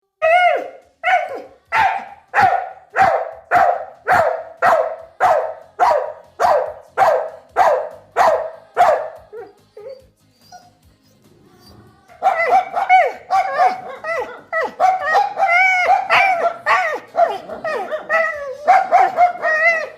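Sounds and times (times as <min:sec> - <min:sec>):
dog barking: 0:00.5 - 0:09.5, 0:12.1 - 0:19.9.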